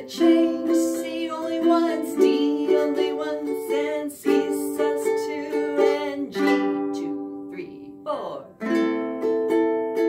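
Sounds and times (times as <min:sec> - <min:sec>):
ukulele strumming: 0:00.0 - 0:10.0.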